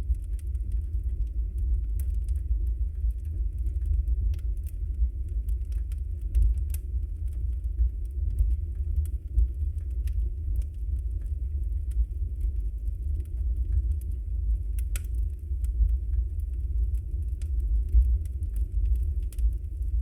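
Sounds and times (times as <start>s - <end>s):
fire crackling and popping: 0.0s - 20.0s
fire low rumble: 0.0s - 20.0s.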